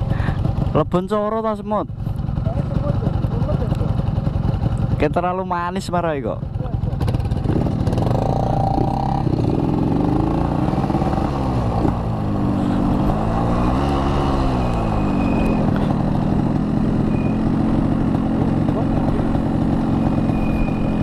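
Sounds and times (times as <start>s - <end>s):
motorcycle engine under throttle: 0.0s - 21.0s.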